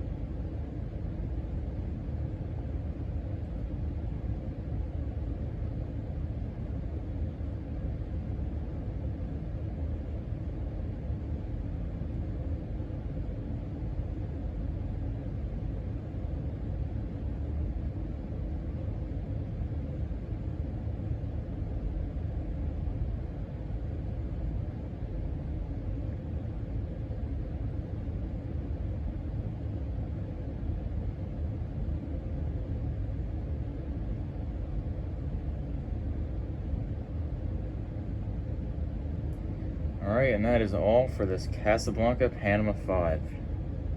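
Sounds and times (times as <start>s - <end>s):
ceiling fan blades rumbling: 0.0s - 43.9s
faint steady hum: 0.0s - 43.9s.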